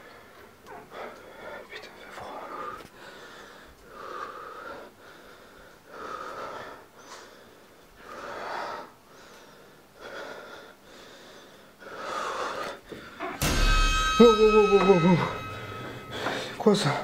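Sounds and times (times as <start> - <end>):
person breathing heavily: 0.0 - 13.4, 15.4 - 16.7.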